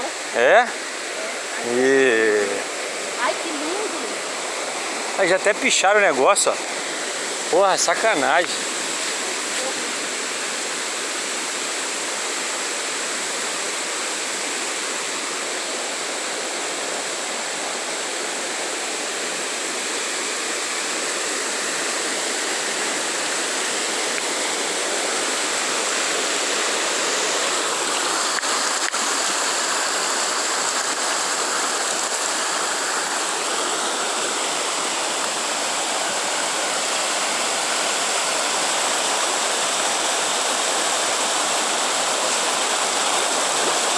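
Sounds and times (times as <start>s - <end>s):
waterfall pouring: 0.0s - 43.9s.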